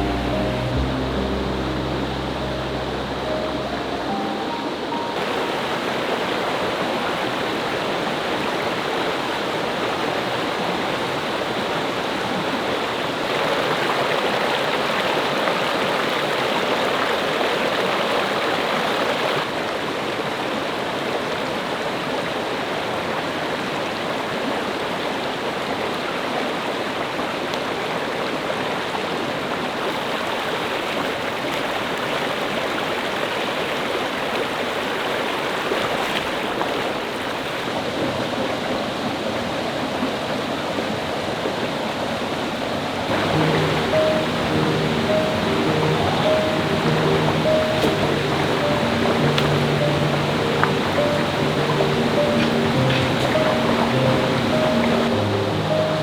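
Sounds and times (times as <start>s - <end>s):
stream and waterfall rushing: 0.0s - 56.0s.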